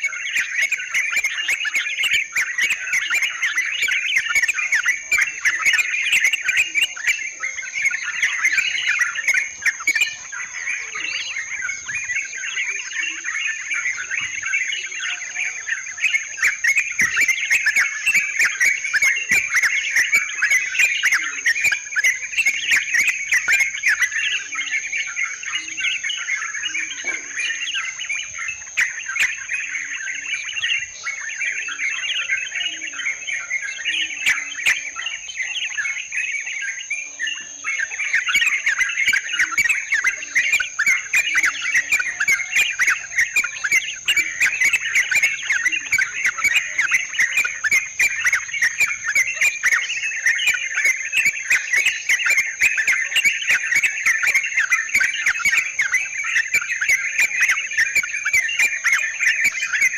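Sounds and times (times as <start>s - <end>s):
flock of birds chattering: 0.0s - 59.9s
high insect whine: 0.0s - 59.9s.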